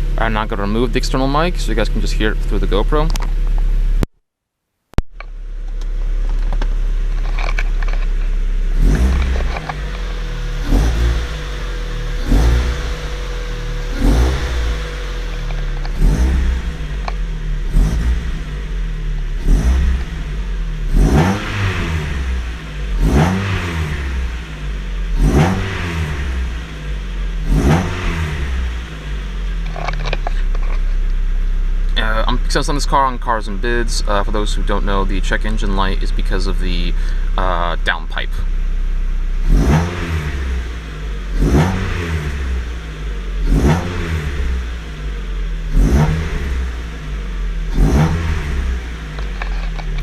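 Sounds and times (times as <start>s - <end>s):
car engine idling and revving: 0.0s - 4.1s, 5.0s - 50.0s.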